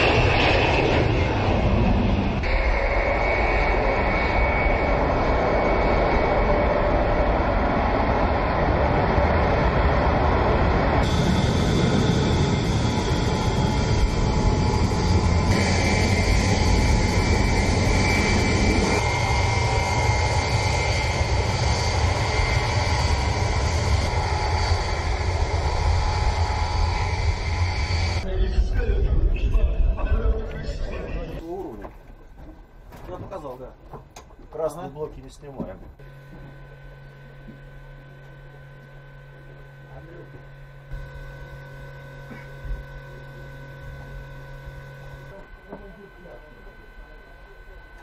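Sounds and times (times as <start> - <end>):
aircraft engine rush and whine: 0.0 - 31.4, 36.0 - 48.0.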